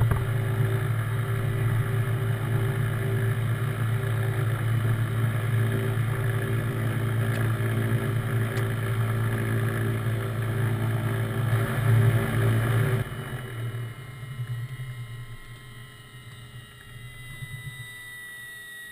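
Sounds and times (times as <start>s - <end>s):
high whine falling in pitch: 0.0s - 18.9s.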